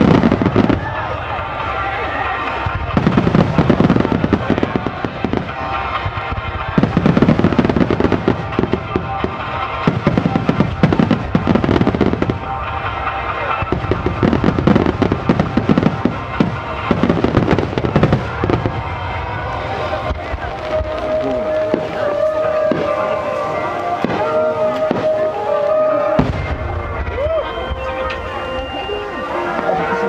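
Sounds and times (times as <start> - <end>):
fireworks bursting and crackling: 0.0 - 30.0
music: 0.0 - 30.0.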